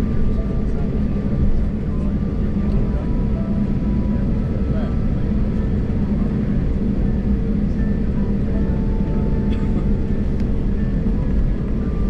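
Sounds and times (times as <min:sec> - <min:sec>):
aircraft engines rumbling in cabin: 0:00.0 - 0:12.0.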